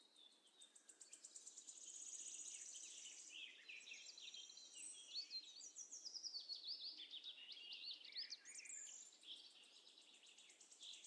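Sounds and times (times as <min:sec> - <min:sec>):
faint birdsong chirps and trills: 0:00.0 - 0:11.0.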